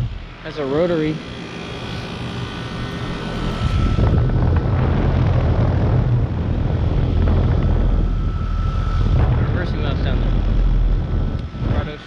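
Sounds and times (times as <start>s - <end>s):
condenser fan rushing: 0.0s - 12.0s
faint steady whine: 0.0s - 12.0s
heat pump compressor hum: 0.0s - 12.0s.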